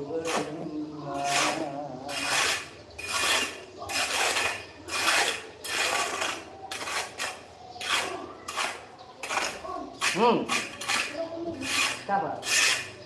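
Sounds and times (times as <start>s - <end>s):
hand tool scraping molding: 0.2s - 13.0s.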